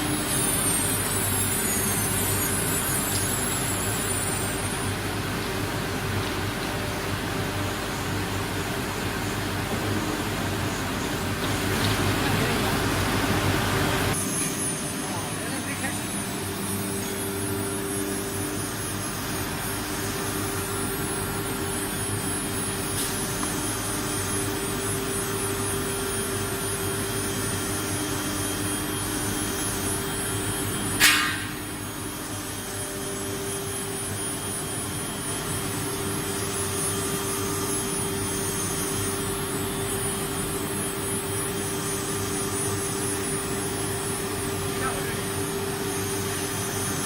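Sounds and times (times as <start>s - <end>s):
cnc router humming: 0.0s - 47.0s.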